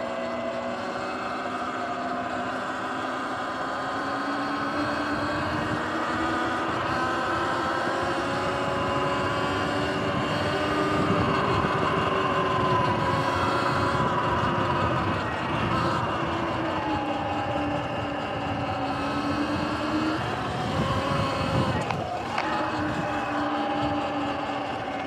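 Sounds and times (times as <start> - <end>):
electric motor whine: 0.0 - 25.0
tyre and wind noise: 4.8 - 25.0.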